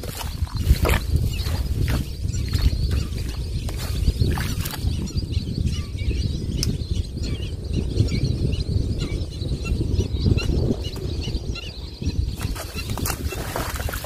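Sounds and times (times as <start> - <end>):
small birds chirping: 0.0 - 14.0
wind rumbling on microphone: 0.0 - 14.0.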